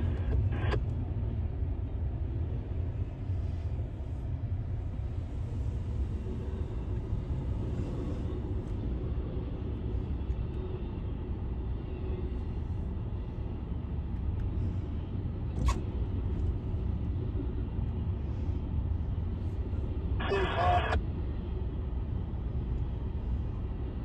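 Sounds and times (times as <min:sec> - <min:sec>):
low vehicle rumble: 0:00.0 - 0:24.0.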